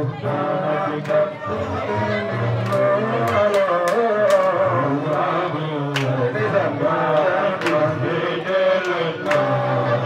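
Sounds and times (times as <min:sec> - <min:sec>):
man chanting through microphone: 0:00.0 - 0:10.0.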